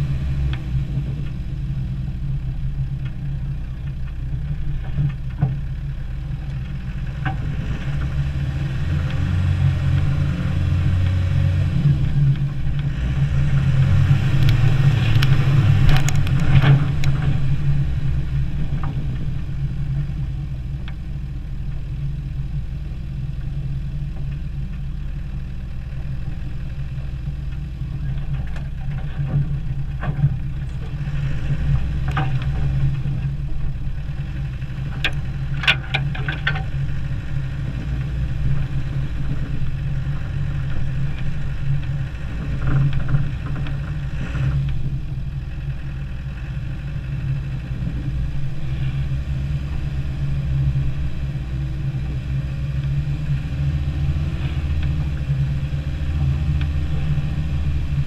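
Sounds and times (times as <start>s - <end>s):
truck engine droning: 0.0s - 58.0s.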